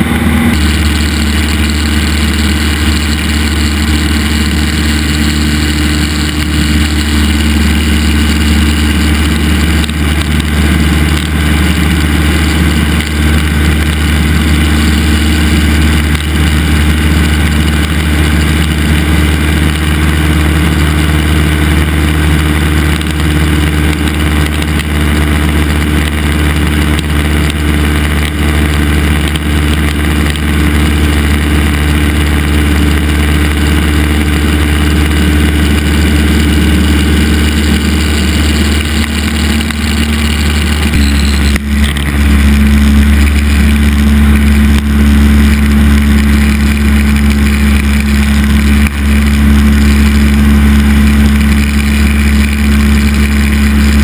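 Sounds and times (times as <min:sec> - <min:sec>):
propeller plane engine drone: 0:00.0 - 0:54.0.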